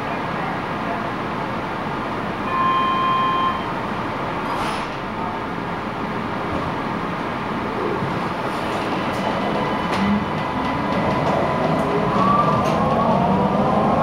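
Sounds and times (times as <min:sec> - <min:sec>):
metro train humming: 0:00.0 - 0:14.0.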